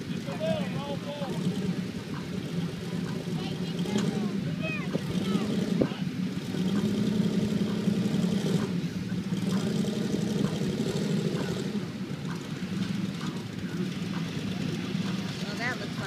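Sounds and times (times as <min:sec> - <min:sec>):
engines droning: 0:00.0 - 0:16.0.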